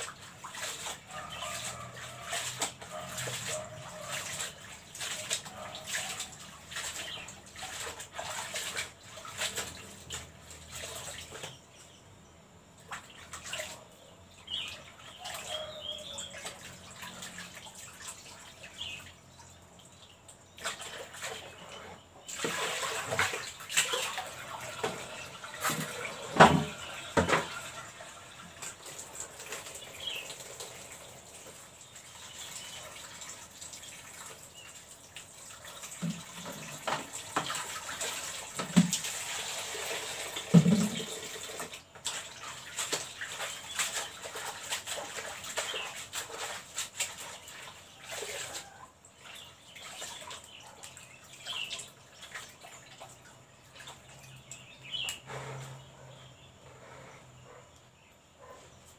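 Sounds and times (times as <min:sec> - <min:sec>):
water splashing and dripping: 0:00.0 - 0:11.8, 0:12.6 - 0:55.5.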